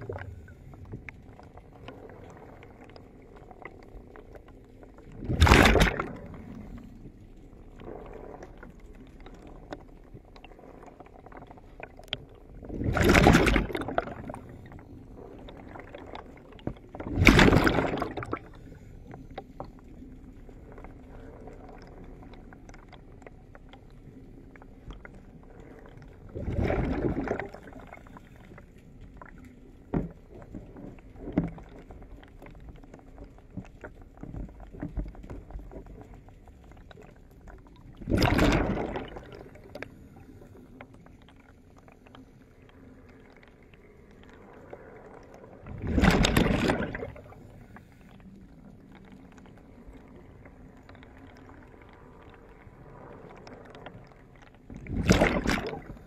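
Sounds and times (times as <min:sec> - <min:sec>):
water sloshing and gurgling: 0:00.0 - 0:56.0.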